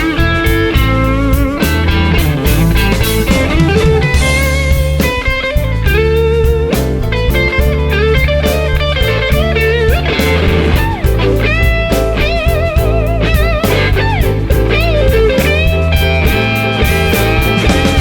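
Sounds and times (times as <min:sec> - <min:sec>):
bass: 0:00.0 - 0:18.0
electric guitar lead: 0:00.0 - 0:18.0
steady drum beat: 0:00.0 - 0:18.0.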